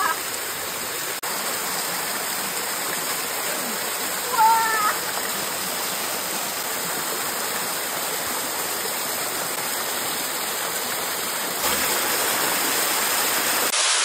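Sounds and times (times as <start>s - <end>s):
waterfall rushing water: 0.0s - 14.0s.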